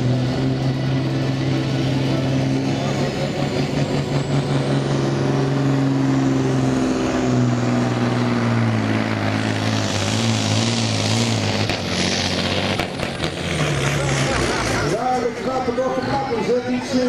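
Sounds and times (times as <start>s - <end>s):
rushing noise: 0.0s - 16.5s
truck diesel engine under load: 0.0s - 17.0s.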